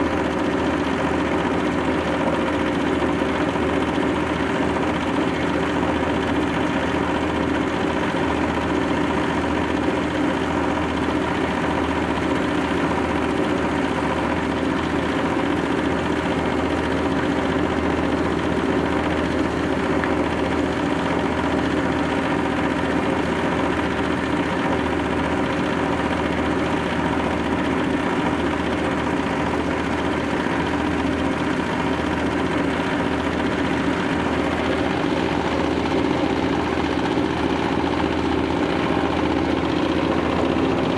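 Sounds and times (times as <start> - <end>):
grinding machine running: 0.0 - 40.9.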